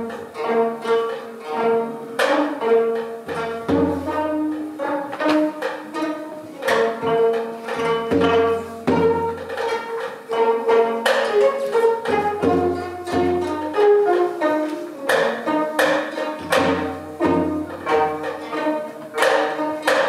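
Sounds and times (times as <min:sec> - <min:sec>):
plucked string ensemble melody: 0:00.0 - 0:20.0.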